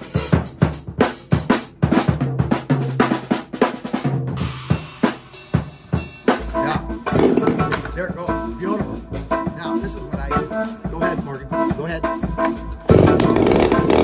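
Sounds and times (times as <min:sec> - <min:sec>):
drum kit playing steady beat: 0:00.0 - 0:14.0.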